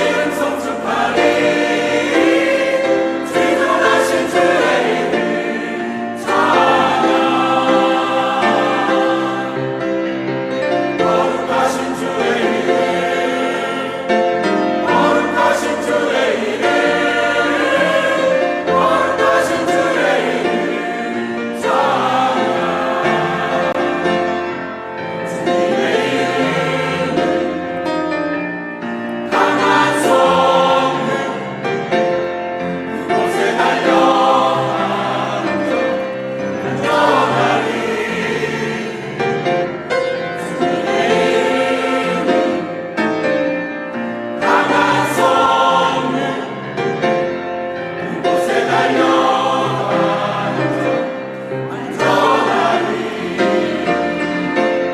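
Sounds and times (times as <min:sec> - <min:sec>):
church choir singing: 0:00.0 - 0:54.9.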